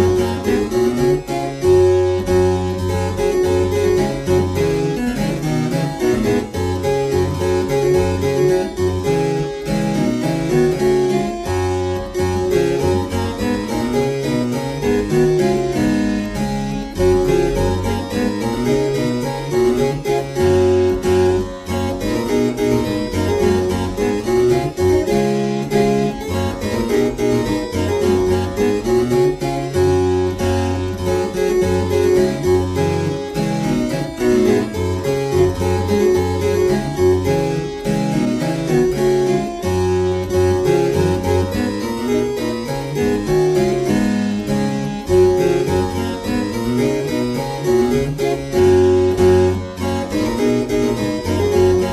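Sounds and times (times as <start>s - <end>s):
harpsichord-like keyboard music: 0.0s - 51.9s.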